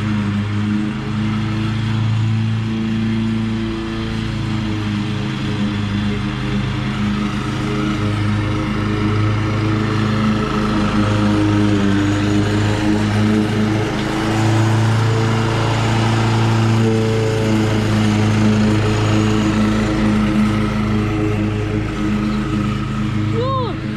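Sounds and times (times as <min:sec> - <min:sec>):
lawn mower engine running: 0:00.0 - 0:23.9.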